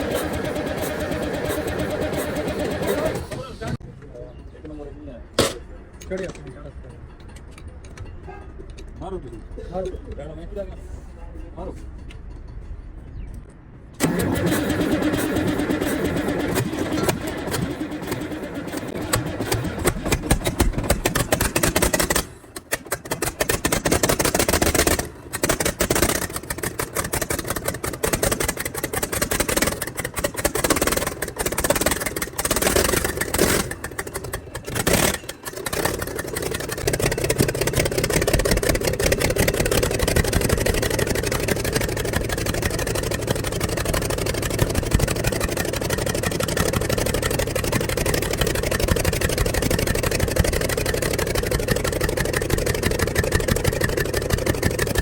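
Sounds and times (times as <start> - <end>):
diesel engine running: 0.0 - 3.8, 14.0 - 55.0.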